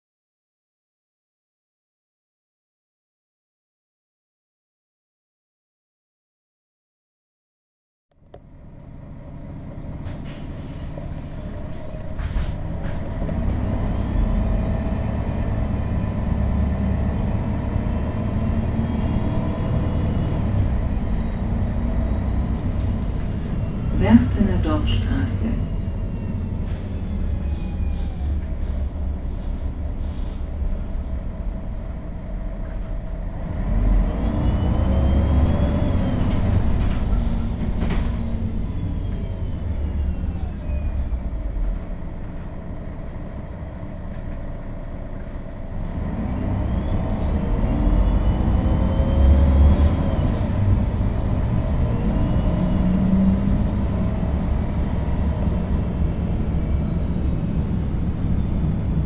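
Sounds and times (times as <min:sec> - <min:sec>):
bus engine drone: 0:08.1 - 0:59.0.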